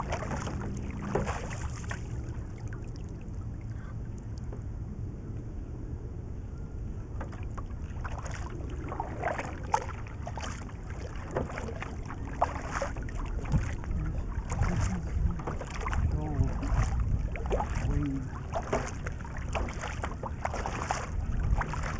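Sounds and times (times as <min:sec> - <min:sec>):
paddle strokes splashing water: 0:00.0 - 0:03.6, 0:07.2 - 0:21.9
wind rumble on microphone: 0:00.0 - 0:21.9.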